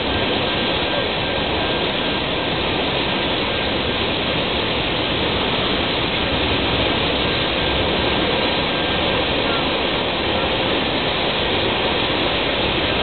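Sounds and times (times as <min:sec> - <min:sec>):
steel wheels rushing on rail: 0:00.0 - 0:13.0.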